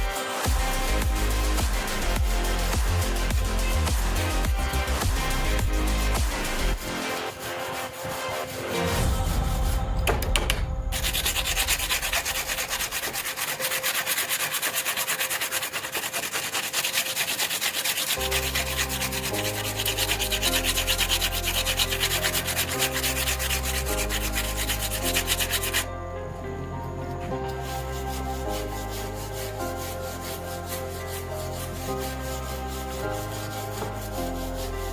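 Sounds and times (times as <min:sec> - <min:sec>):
abrasive sanding of steel: 0:00.0 - 0:09.8, 0:10.9 - 0:25.9, 0:27.4 - 0:34.9
background music with bass: 0:00.0 - 0:13.1, 0:18.2 - 0:34.9.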